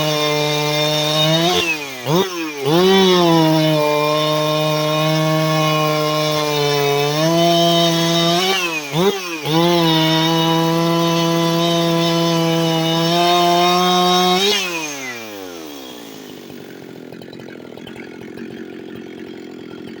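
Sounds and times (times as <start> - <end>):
chainsaw at full throttle: 0.0 - 20.0.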